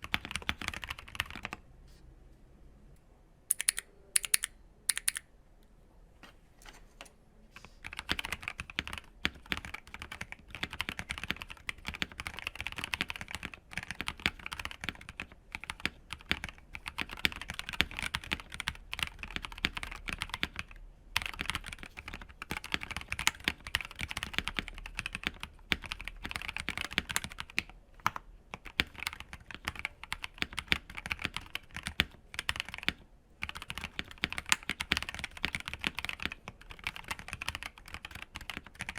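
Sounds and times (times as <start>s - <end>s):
mechanical keyboard typing: 0.0s - 1.6s, 3.5s - 5.2s, 7.8s - 38.9s.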